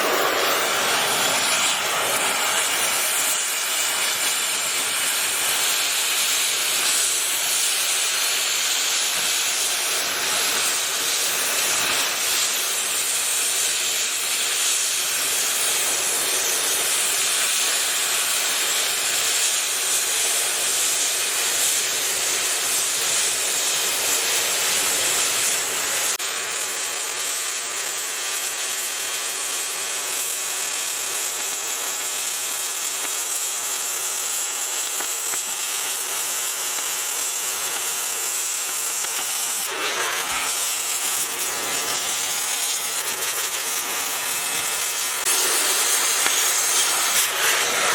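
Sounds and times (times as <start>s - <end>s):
cutting torch hissing: 0.0s - 47.9s.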